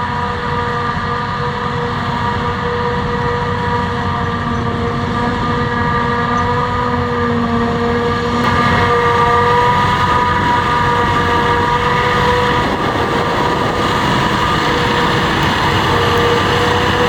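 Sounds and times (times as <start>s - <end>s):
heavy machinery engine rumble: 0.0s - 17.0s
high machine whine: 0.0s - 17.0s.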